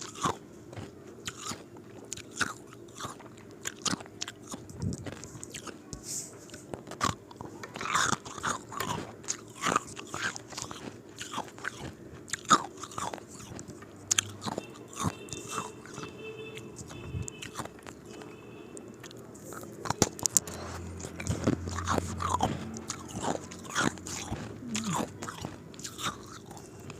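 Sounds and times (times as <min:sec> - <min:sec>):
chewing: 0:00.0 - 0:16.2, 0:16.8 - 0:26.9.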